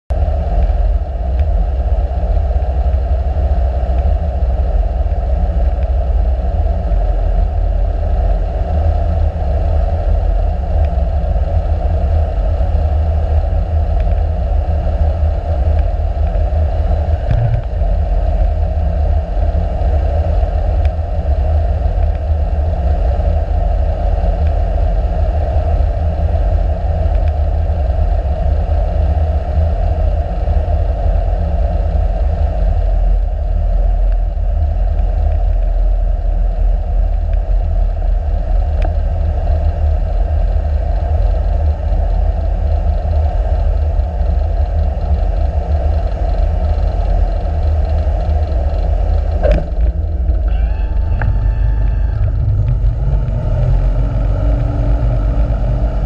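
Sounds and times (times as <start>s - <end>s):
aircraft engine and propeller droning: 0.1s - 56.0s.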